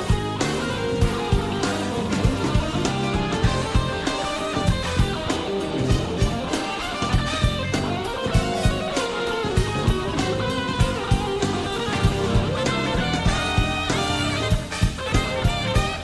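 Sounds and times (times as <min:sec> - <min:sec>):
drum kit beat: 0:00.0 - 0:16.0
electric bass: 0:00.0 - 0:16.0
electric guitar lead: 0:00.0 - 0:16.0
keyboards: 0:00.0 - 0:16.0.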